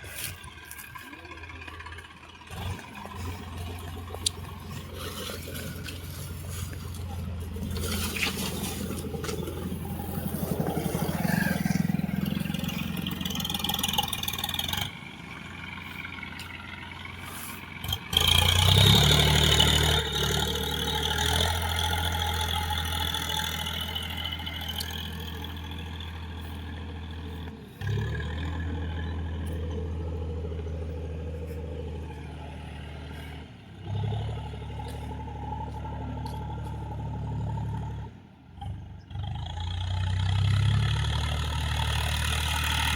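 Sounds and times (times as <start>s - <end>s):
tractor diesel engine revving: 0.0s - 42.9s.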